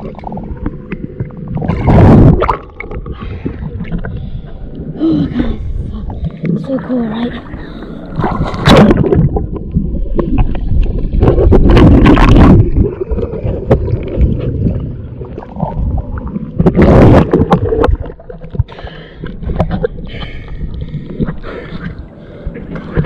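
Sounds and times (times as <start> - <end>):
deep rumble: 0.0 - 23.0
water rushing and sloshing: 0.0 - 23.0.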